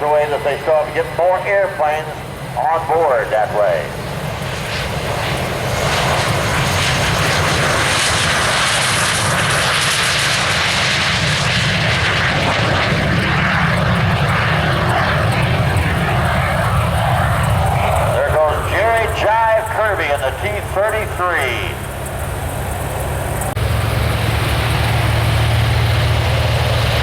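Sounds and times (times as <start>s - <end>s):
jet engine roar with whine: 0.0s - 27.0s.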